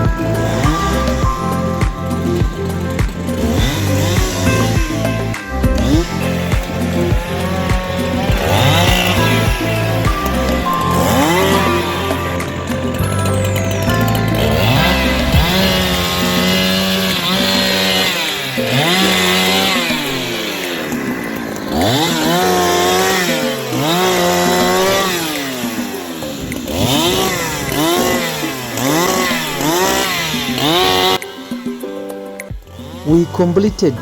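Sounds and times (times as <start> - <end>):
chainsaw revving: 0.0 - 32.1, 32.7 - 34.0.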